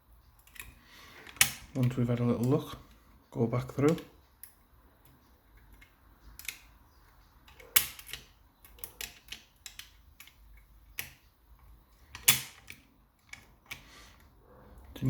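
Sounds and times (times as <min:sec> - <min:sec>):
lock picks clicking and scraping: 0:00.3 - 0:03.0, 0:03.7 - 0:06.8, 0:07.4 - 0:14.3.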